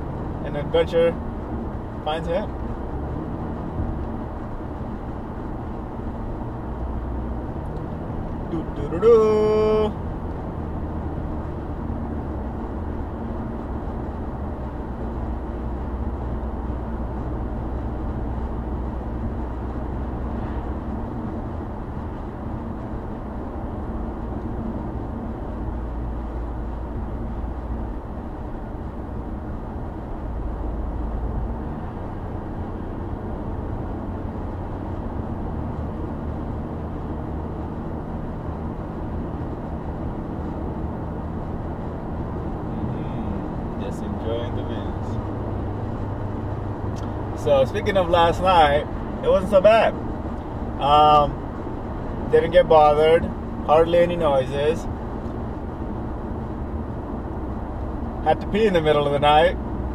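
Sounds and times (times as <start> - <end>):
car cabin road noise: 0.0 - 59.9.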